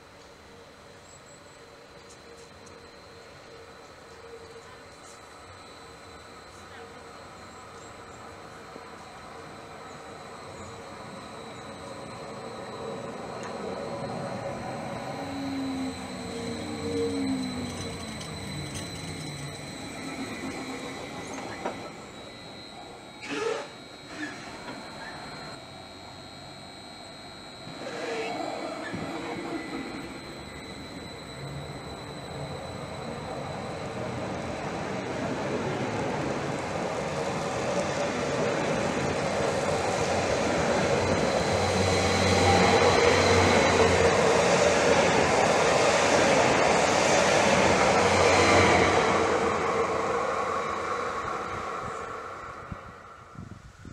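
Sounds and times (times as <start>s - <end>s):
train equipment hum and whine: 0.0s - 53.9s.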